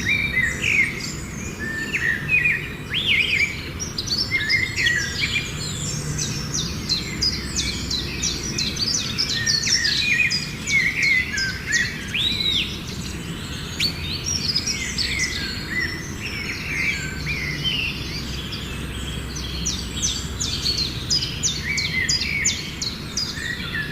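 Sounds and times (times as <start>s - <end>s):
birds chirping and calling: 0.0s - 23.9s.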